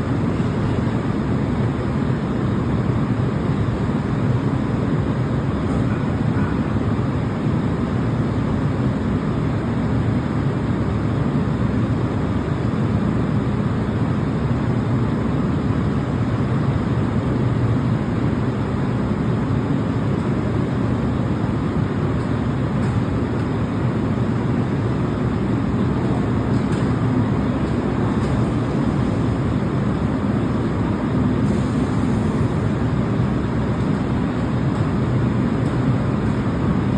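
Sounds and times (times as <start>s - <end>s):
electric train rumbling: 0.0s - 9.6s, 14.4s - 36.9s.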